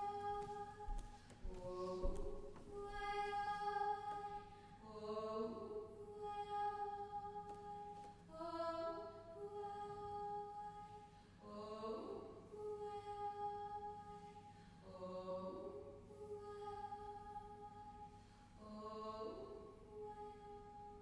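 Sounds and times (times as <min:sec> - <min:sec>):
a cappella choir singing chords: 0:00.0 - 0:00.9, 0:01.5 - 0:21.0.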